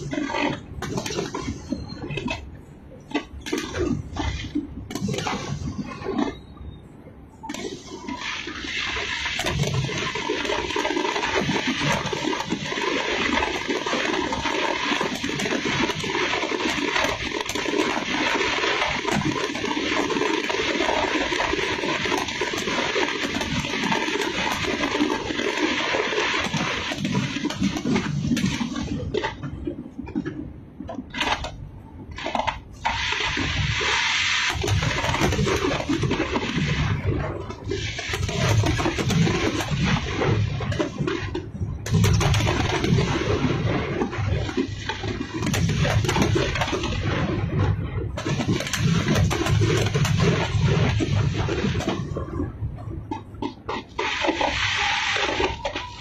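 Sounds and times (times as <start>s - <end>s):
fireworks crackling and fizzing: 0.0s - 56.0s.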